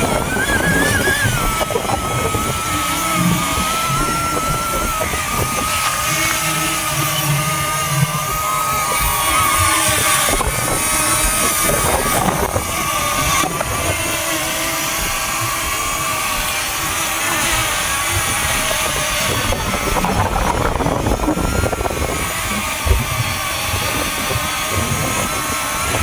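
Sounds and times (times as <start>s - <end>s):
drone propellers whining: 0.0s - 26.0s
wind buffeting microphone: 0.0s - 26.0s.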